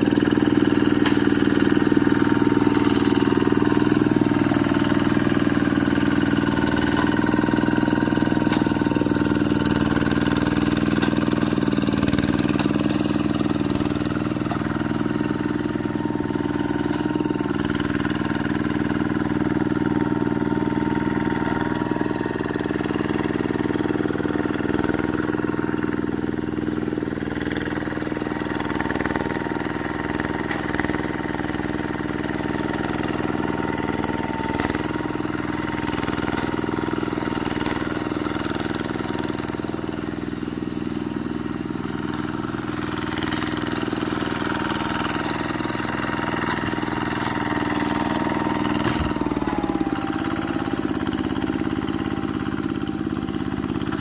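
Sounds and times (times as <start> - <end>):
hand tractor engine running: 0.0 - 54.0.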